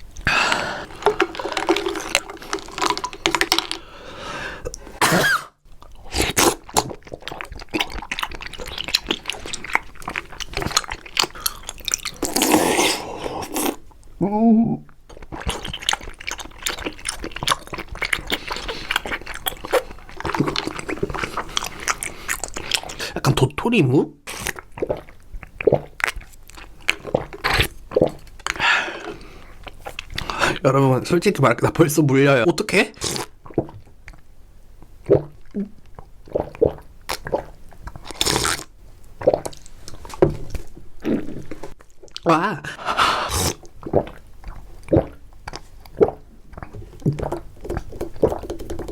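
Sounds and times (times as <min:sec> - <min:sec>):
wet chewing of jelly-like food: 0:00.0 - 0:14.2, 0:14.9 - 0:23.2, 0:24.3 - 0:30.6, 0:32.9 - 0:48.9.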